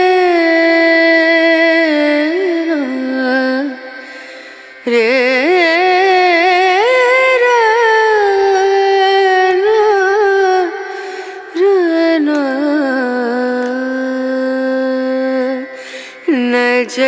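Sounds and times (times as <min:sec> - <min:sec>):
devotional song: 0:00.0 - 0:17.0
high voice singing with vibrato: 0:00.0 - 0:17.0.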